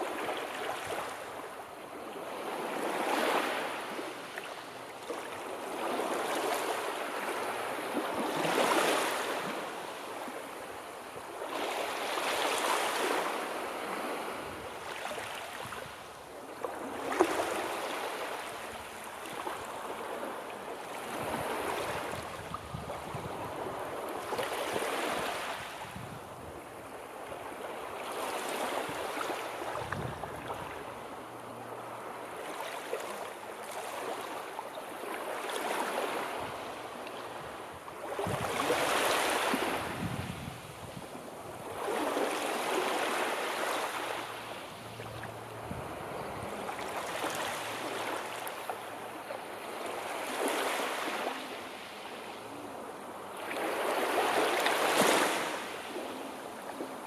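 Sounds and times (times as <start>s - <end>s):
sea waves breaking: 2.2s - 26.0s, 26.6s - 57.0s.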